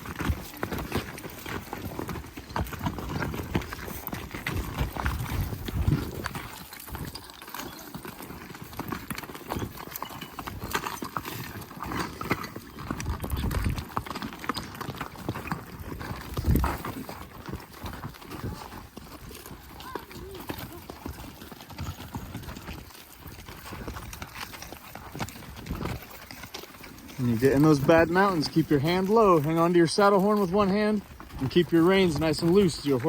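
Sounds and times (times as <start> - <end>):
horse hooves clip-clopping: 0.0 - 33.0.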